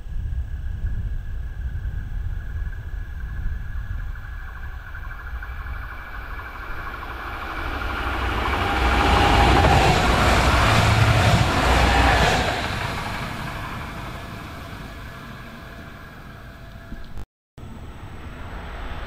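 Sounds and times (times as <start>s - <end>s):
low rumble: 0.0s - 19.0s
faint whining tone: 0.1s - 19.0s
train passing on rails: 0.4s - 19.0s.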